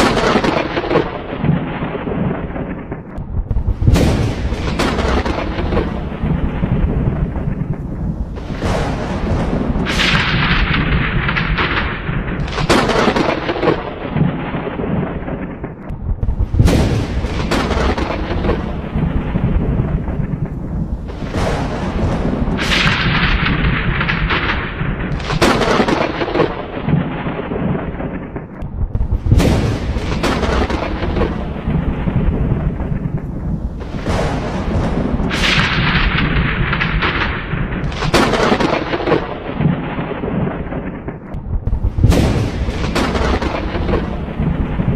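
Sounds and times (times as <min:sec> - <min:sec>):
low thunder rumble: 0:00.0 - 0:44.9
sharp thunderclaps: 0:00.0 - 0:44.9.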